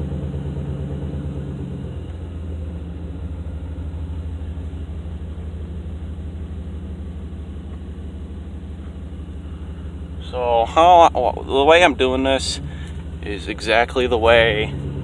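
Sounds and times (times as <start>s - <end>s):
truck engine running at low revs: 0.0s - 15.0s.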